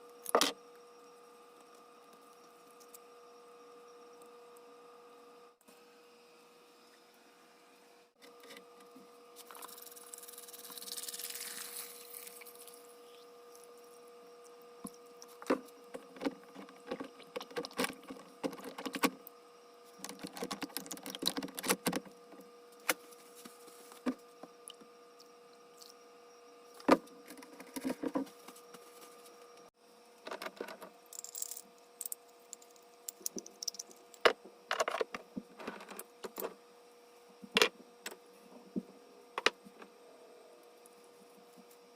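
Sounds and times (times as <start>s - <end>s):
faint electrical hum: 0.0s - 41.9s.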